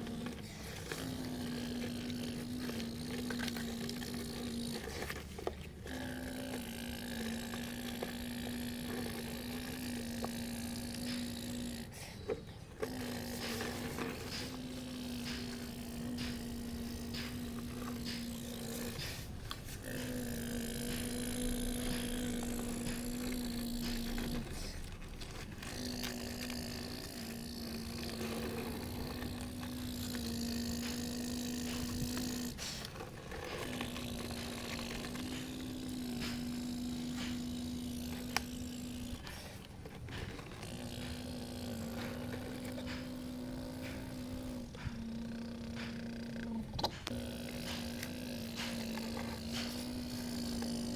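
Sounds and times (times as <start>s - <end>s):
model excavator motor whining: 0.0s - 50.9s
scraping and clicking digging: 0.0s - 50.9s.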